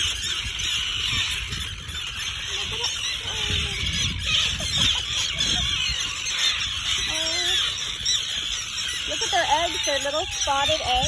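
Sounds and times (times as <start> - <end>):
terns calling harshly: 0.0 - 11.0.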